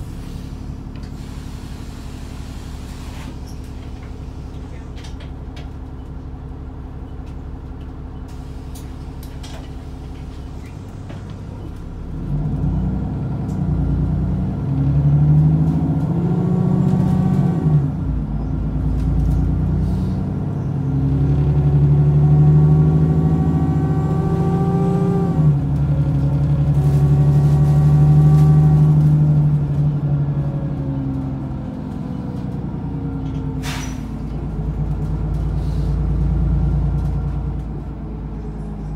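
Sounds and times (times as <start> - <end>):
bus engine accelerating with whine: 0.0 - 38.9.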